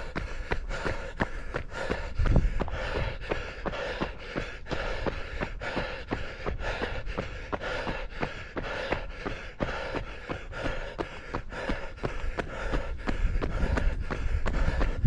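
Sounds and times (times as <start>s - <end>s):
hard breathing: 0.0s - 15.0s
running footsteps on a lane: 0.0s - 15.0s.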